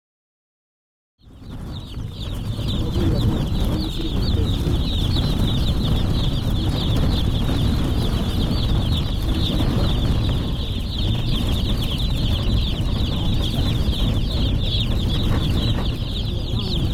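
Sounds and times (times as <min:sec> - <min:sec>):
wind rumbling on microphone: 0:01.2 - 0:16.9
high chirping: 0:01.3 - 0:16.9.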